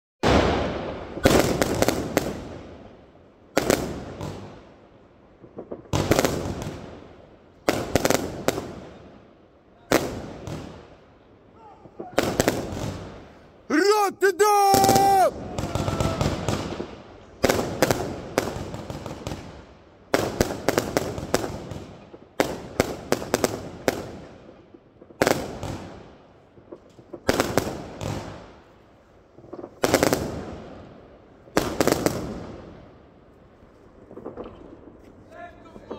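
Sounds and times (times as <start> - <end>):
firework volleys of bangs: 0.2 - 9.3, 9.9 - 33.1.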